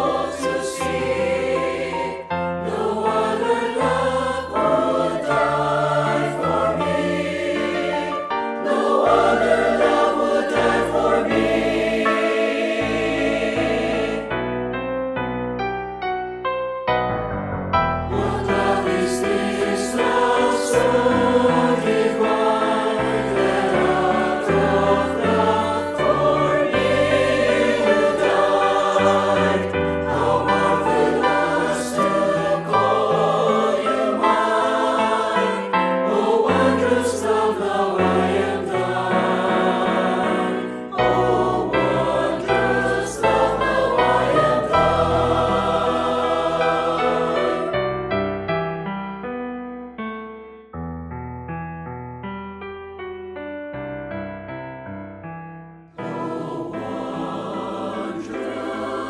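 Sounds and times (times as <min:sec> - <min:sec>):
mixed choir singing an anthem: 0:00.0 - 0:14.6, 0:18.0 - 0:48.1, 0:56.0 - 0:59.0.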